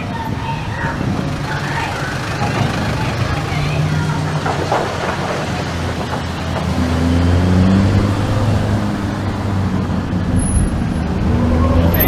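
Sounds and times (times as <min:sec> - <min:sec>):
car engine pulling away: 0:00.8 - 0:12.0.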